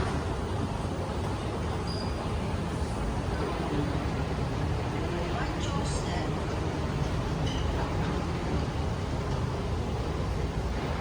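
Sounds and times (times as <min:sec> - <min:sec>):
airliner cabin rumble and hiss: 0:00.0 - 0:11.0.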